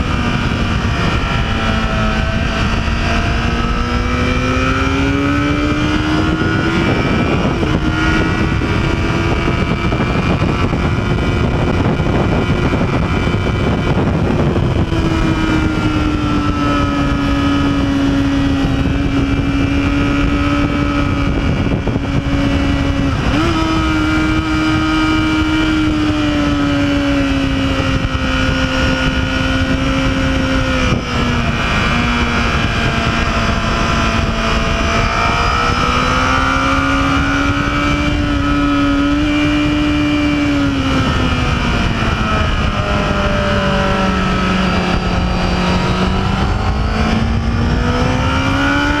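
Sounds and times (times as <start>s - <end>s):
motorcycle engine revving: 0.0s - 49.0s
wind rushing: 0.0s - 49.0s.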